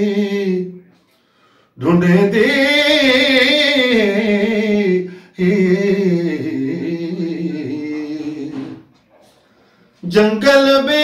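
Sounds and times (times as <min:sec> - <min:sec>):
man singing unaccompanied: 0:00.0 - 0:00.9, 0:01.8 - 0:08.9, 0:10.0 - 0:11.0.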